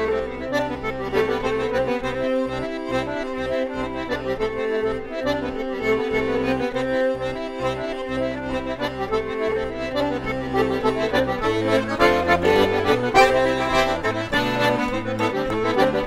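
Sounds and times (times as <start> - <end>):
button accordion playing dance tune: 0.0 - 16.0
fiddle playing: 0.0 - 16.0.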